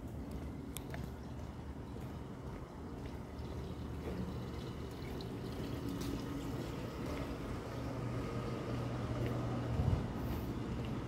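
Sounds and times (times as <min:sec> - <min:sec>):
street background rumble and hiss: 0:00.0 - 0:11.0.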